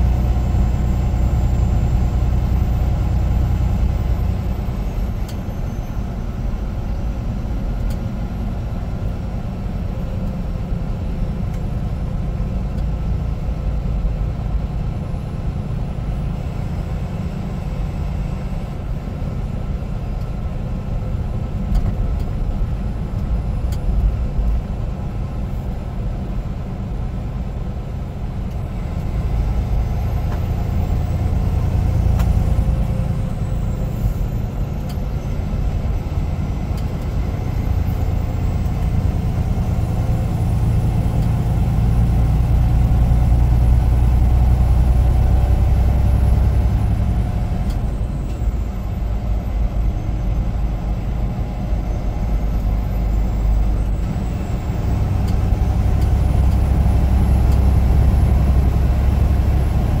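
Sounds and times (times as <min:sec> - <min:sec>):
truck diesel engine running: 0:00.0 - 1:00.0.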